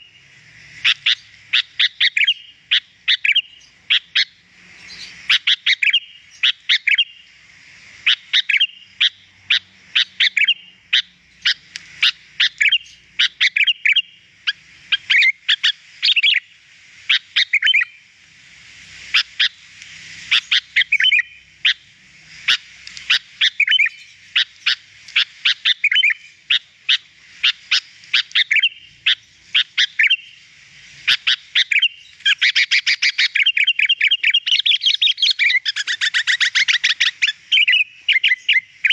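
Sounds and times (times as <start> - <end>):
bird chirping and whistling: 0.8 - 7.3, 8.1 - 16.5, 17.2 - 18.0, 20.3 - 21.9, 22.5 - 30.4, 31.1 - 38.9.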